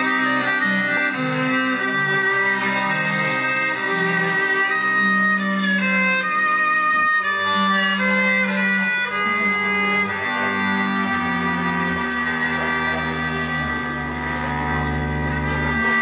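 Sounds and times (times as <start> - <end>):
bowed strings music: 0.0 - 16.0.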